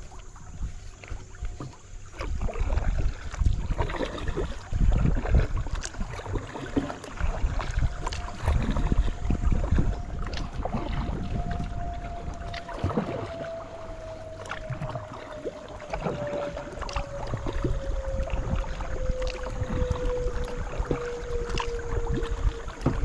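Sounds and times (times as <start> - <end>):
low rumble on microphone: 0.0 - 23.0
paddle strokes splashing: 0.0 - 23.0.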